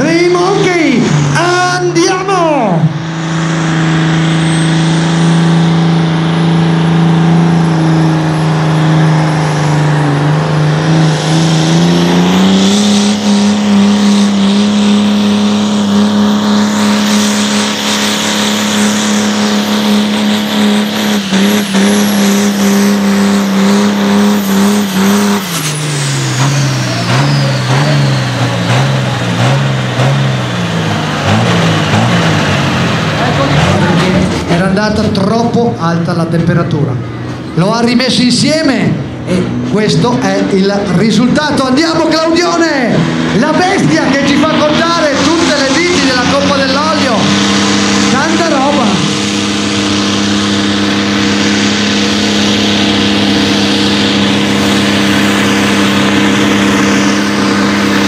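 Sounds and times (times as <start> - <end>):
high whine: 0.0 - 58.0
tractor engine at full throttle: 0.0 - 58.0.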